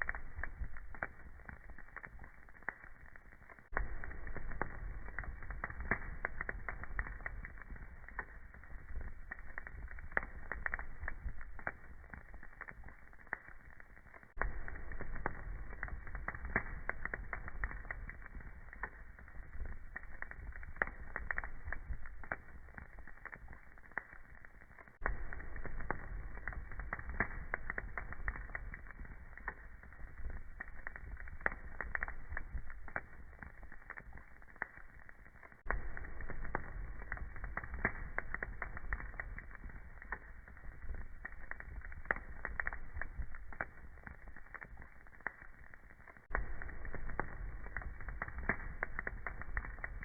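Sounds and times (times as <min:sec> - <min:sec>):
low rumble of burning: 0:00.0 - 0:50.0
wood fire crackling and popping: 0:00.0 - 0:50.0.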